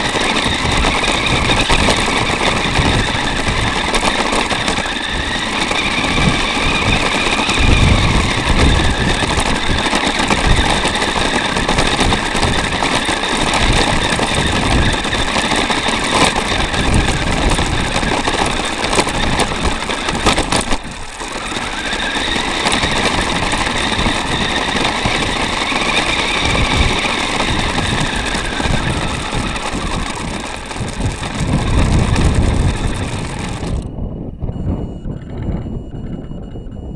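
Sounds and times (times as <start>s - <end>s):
rc car motor whining: 0.0s - 33.9s
steady rushing noise: 0.0s - 36.9s.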